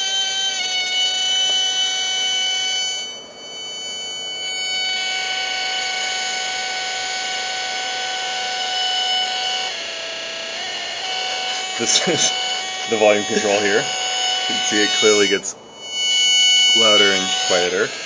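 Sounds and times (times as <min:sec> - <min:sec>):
buzzy square-wave tone: 0:00.0 - 0:18.0.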